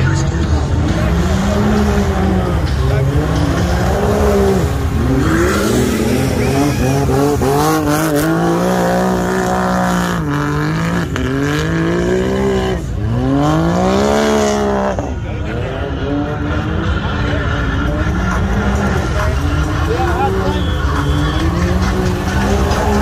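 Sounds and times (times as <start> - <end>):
utility vehicle engine revving: 0.0 - 23.0.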